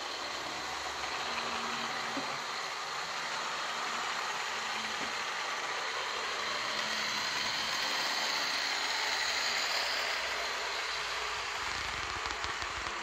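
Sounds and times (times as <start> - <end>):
model train rolling hum: 0.0 - 13.0.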